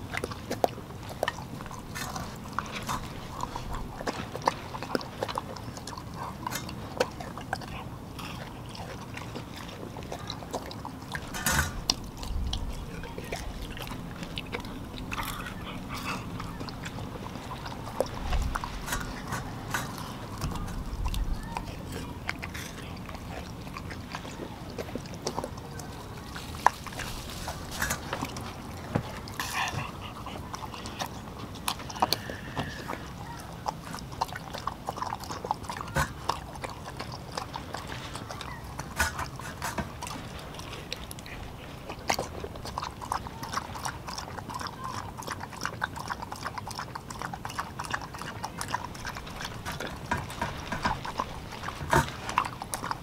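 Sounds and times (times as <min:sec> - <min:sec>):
dog eating wet meat: 0:00.0 - 0:53.0.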